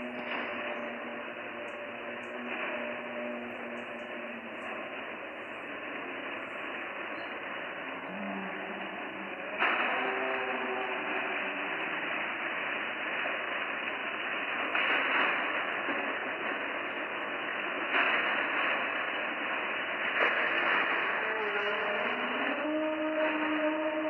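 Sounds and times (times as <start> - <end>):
faint steady tones: 0.0 - 22.6
muffled static hiss: 0.0 - 24.0.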